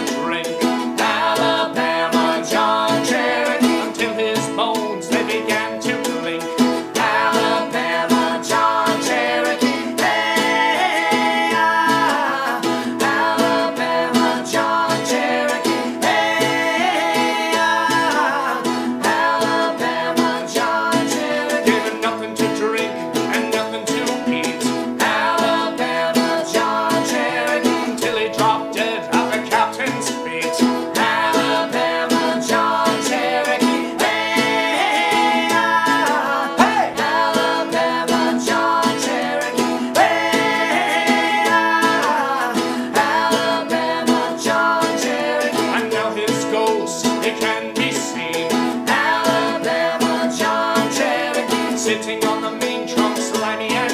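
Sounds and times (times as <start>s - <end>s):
acoustic folk band music: 0.0s - 53.9s.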